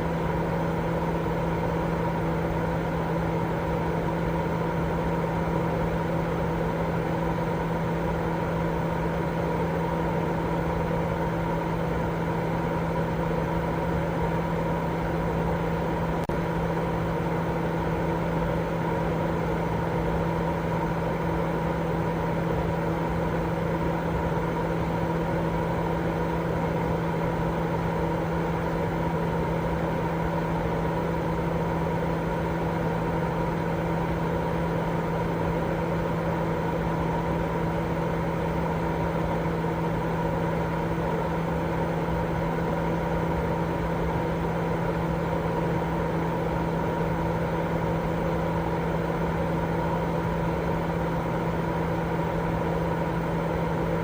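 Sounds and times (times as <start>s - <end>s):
white noise with hum: 0.0s - 54.0s.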